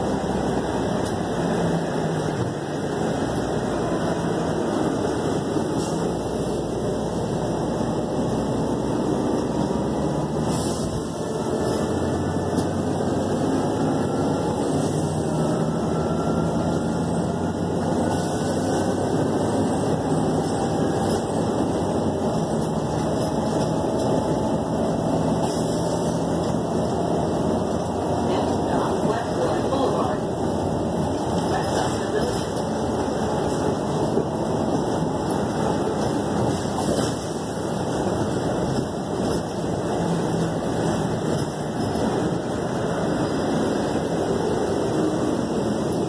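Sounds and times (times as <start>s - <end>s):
bus engine drone: 0.0s - 46.0s
road noise: 0.0s - 46.0s.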